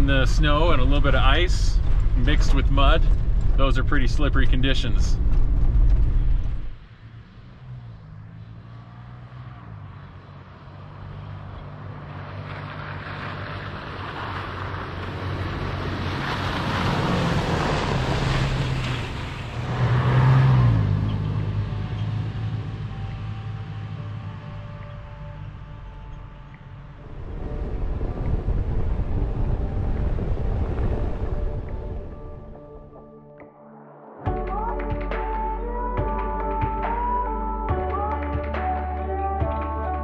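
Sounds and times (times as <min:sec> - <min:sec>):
truck engine rumble: 0:00.0 - 0:33.1.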